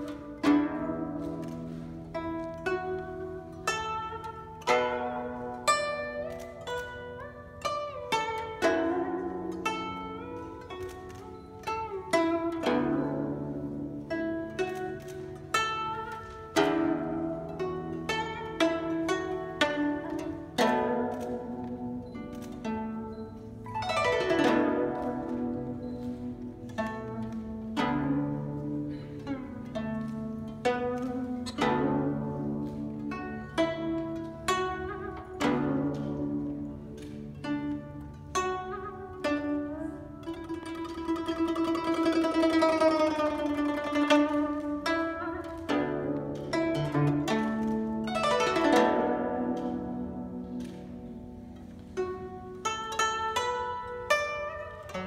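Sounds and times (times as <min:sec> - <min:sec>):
guzheng string sweep: 0:00.0 - 0:55.0
plucked zither notes: 0:00.0 - 0:55.0.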